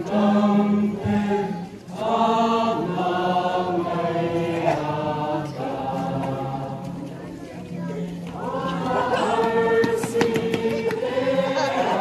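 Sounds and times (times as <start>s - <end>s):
voices singing a slow hymn: 0.0s - 12.0s.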